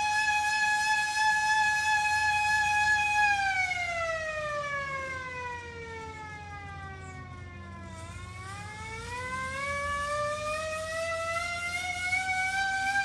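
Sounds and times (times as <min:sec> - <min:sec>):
hand-crank siren wailing: 0:00.0 - 0:13.0.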